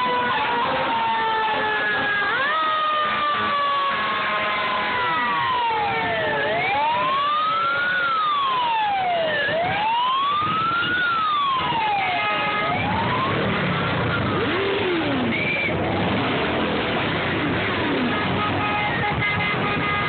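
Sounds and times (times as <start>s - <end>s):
fire engine siren wailing: 0.0s - 20.0s
motorcycle engines rumbling: 0.0s - 20.0s.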